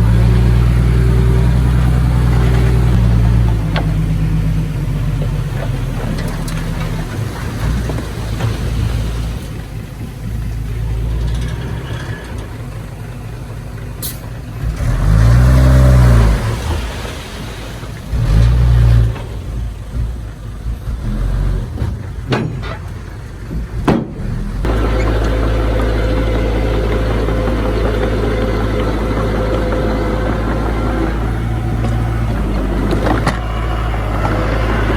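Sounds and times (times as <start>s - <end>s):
diesel earthmoving machinery running: 0.0s - 34.9s
engine surging under load: 0.0s - 34.9s.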